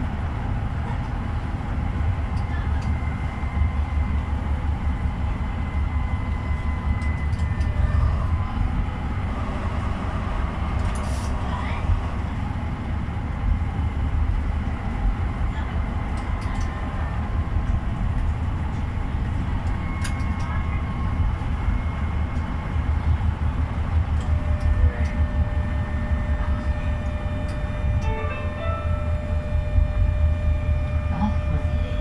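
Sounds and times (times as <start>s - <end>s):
tram running on track: 0.0s - 32.0s.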